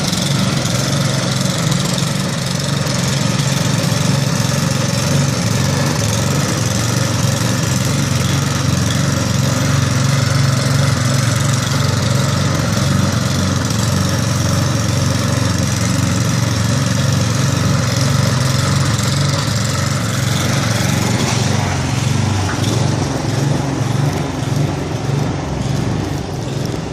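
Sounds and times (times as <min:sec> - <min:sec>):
snow blower engine running: 0:00.0 - 0:26.9.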